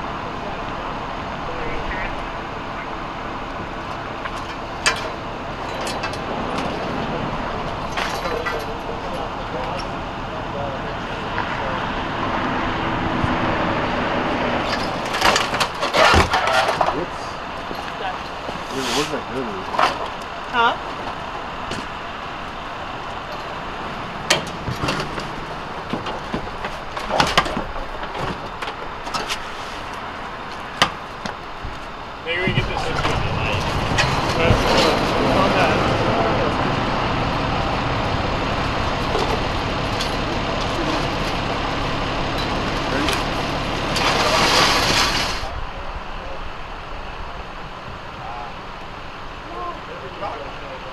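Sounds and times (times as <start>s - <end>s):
background rumble: 0.0s - 50.9s
metal wreckage clanking: 0.0s - 50.9s
road noise: 0.0s - 50.9s
vehicle engine idling: 0.0s - 50.9s.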